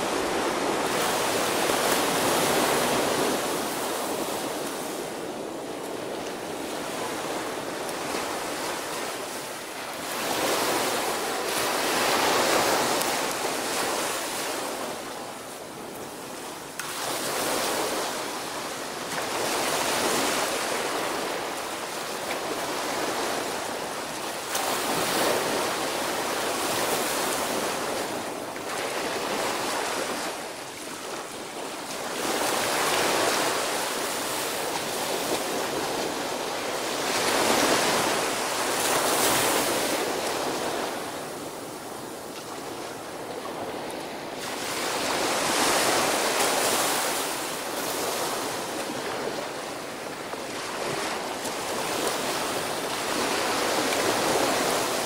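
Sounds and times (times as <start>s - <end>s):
small waves breaking on beach: 0.0s - 55.0s.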